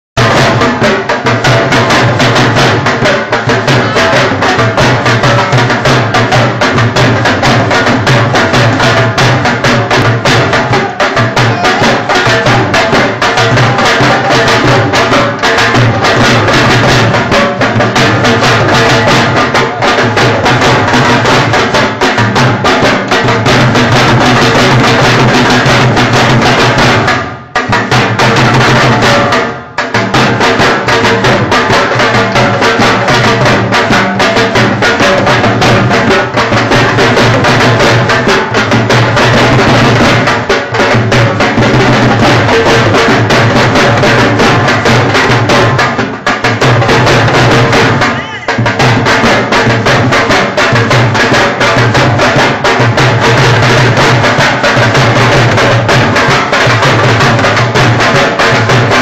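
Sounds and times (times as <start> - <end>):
drums beaten with sticks: 0.2 - 59.0.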